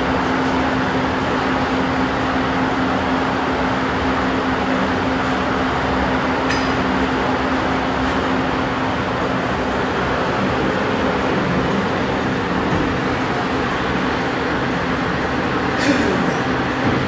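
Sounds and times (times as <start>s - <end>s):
fan running: 0.0s - 17.0s.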